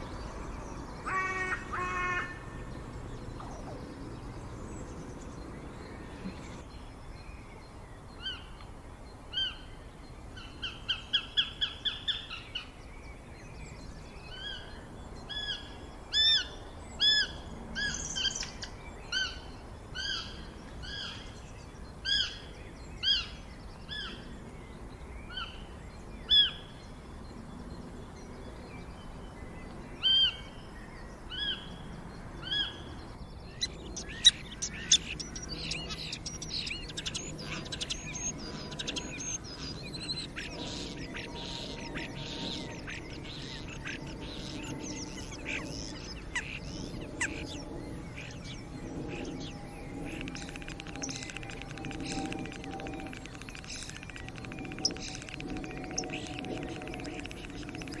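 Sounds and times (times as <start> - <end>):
bird chirping: 9.3 - 58.0.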